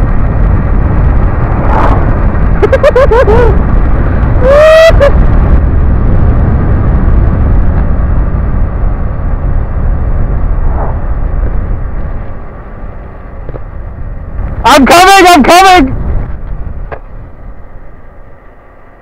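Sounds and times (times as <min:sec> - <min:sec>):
heavy wind rush: 0:00.0 - 0:19.0.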